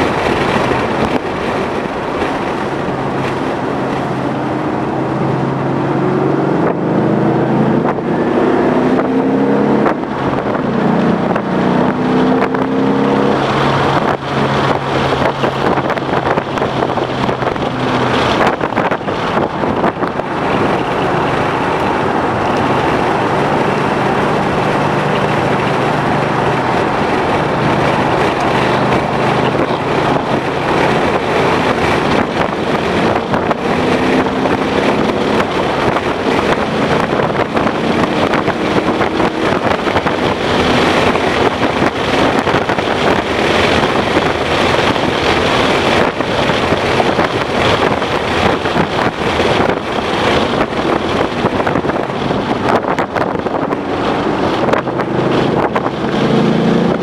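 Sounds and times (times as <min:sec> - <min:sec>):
car engine accelerating: 0:00.0 - 0:57.0
road noise: 0:00.0 - 0:57.0
wind noise: 0:00.0 - 0:57.0.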